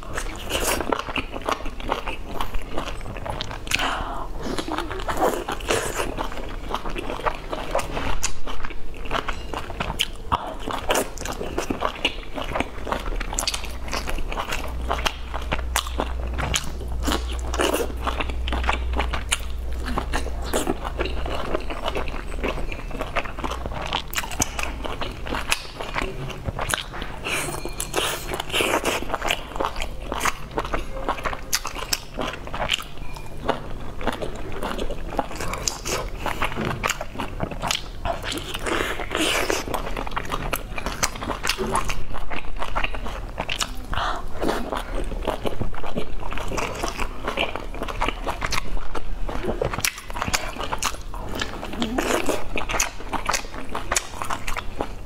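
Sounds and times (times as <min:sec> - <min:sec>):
biting and chewing dumplings: 0:00.0 - 0:55.0.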